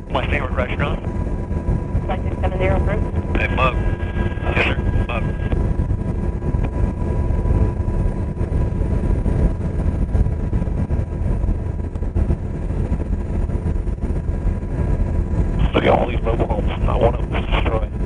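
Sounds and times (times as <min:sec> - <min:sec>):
helicopter rotor and turbine noise: 0:00.0 - 0:18.0.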